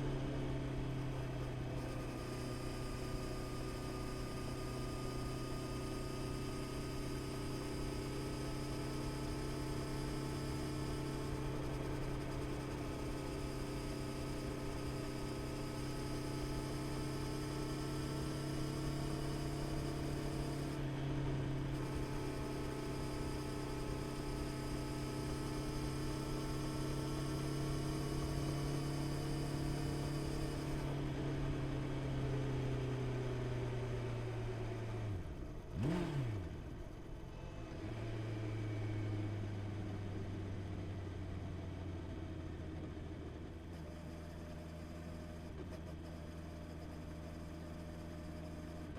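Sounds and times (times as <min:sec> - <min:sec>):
motorcycle engine cruising hum: 0:00.0 - 0:48.9.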